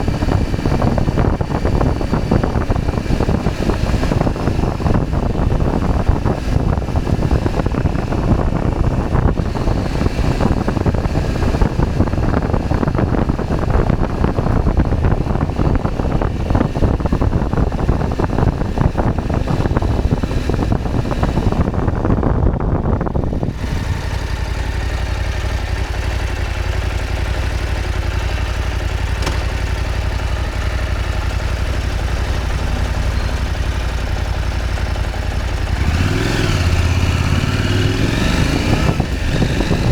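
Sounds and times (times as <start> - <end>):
wind rush: 0.0 - 24.6, 29.4 - 39.9
engine idling: 0.0 - 39.9
motorcycle engine running: 0.0 - 39.9.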